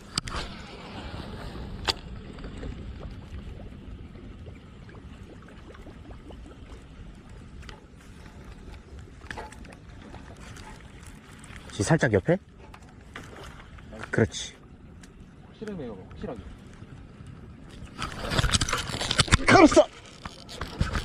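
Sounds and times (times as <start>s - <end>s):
low steady rumble: 0.0s - 21.0s
water lapping and gurgling: 0.0s - 21.0s.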